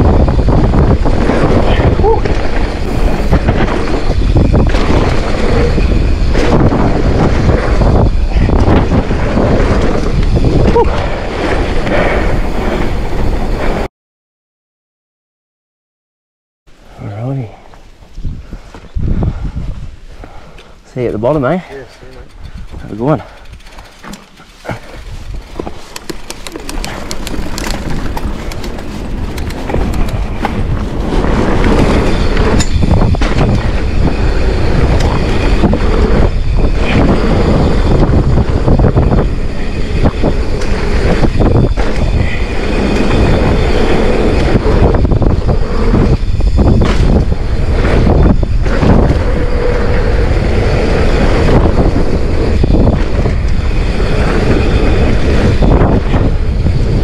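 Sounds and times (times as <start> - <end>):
bike rattling: 0.0 - 13.8, 20.3 - 57.0
bike tyres rumbling on dirt: 0.0 - 13.9, 18.1 - 57.0.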